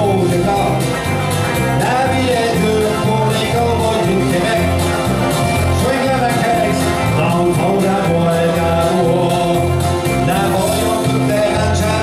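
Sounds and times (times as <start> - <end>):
man singing: 0.0 - 1.0, 1.7 - 12.0
country band playing live: 0.0 - 12.0.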